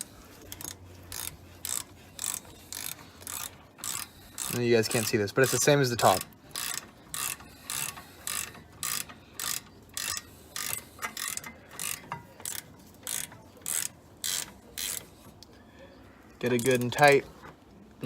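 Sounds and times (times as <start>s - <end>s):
socket ratchet clicking: 0.0s - 15.1s.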